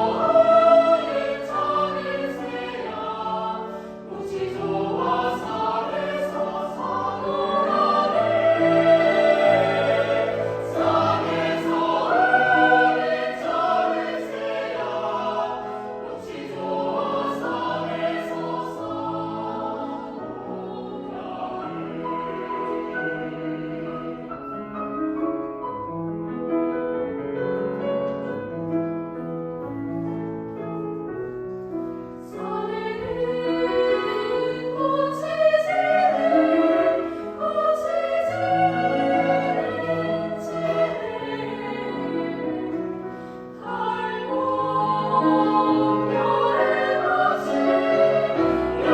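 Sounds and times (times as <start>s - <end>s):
choir singing classical piece: 0.0s - 48.9s.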